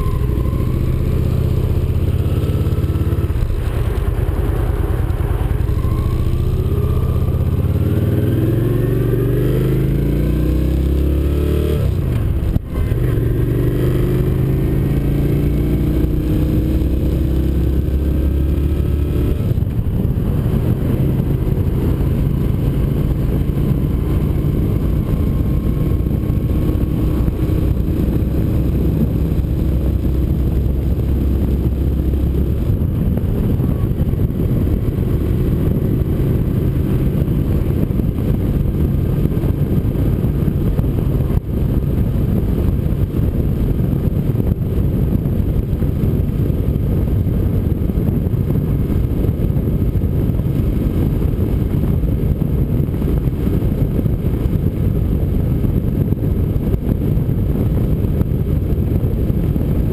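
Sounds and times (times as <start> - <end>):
motorcycle engine rumble: 0.0 - 59.9
wind rushing: 0.0 - 59.9.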